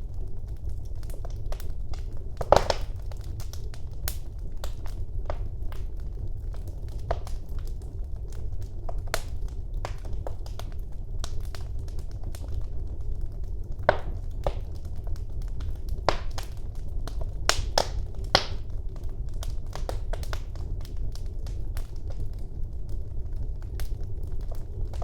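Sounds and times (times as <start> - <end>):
fire crackling and popping: 0.0 - 25.0
wood fire flames rumbling: 0.0 - 25.0.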